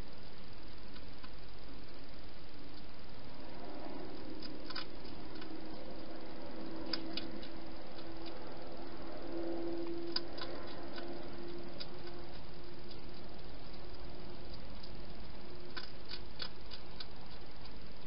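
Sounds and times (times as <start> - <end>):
faint low hum: 0.0 - 18.0
steady hiss: 0.0 - 18.0
hedgehog chewing crunches: 2.8 - 18.0.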